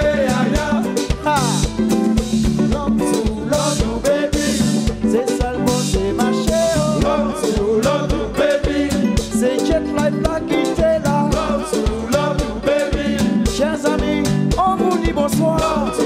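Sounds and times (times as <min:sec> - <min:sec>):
drum kit beat: 0:00.0 - 0:16.0
electric guitar: 0:00.0 - 0:16.0
person singing lead vocal: 0:00.0 - 0:16.0.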